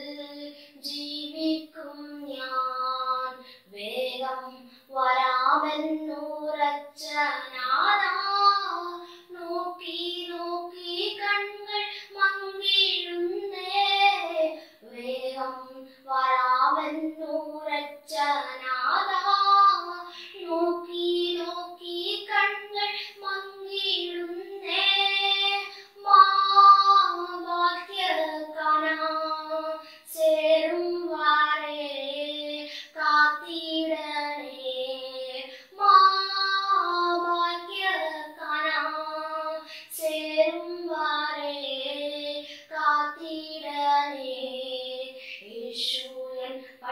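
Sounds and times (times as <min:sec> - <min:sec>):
girl singing unaccompanied: 0:00.0 - 0:46.9.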